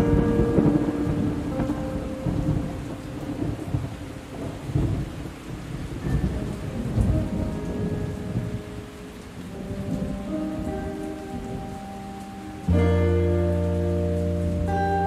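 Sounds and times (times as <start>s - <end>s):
faint held musical notes: 0.0s - 15.0s
steady rain: 0.0s - 15.0s
thunder rumbles: 0.0s - 15.0s.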